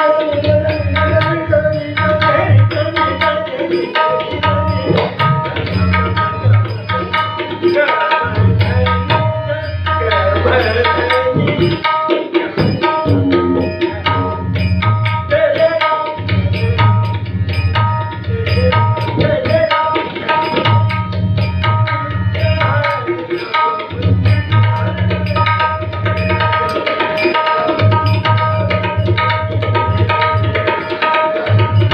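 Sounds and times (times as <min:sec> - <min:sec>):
tabla playing: 0:00.0 - 0:31.9
held instrument tones: 0:00.4 - 0:31.9.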